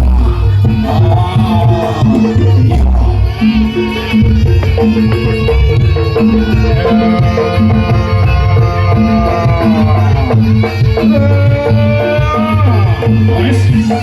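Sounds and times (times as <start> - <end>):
pitched percussion: 0.0 - 14.0
sliding melody line: 0.1 - 14.0
hand drums beating: 0.5 - 14.0.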